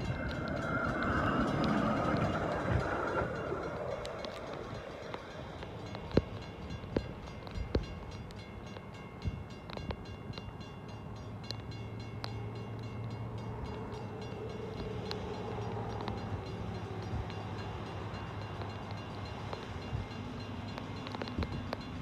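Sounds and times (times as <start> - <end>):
truck running on rails hum: 0.0 - 22.0.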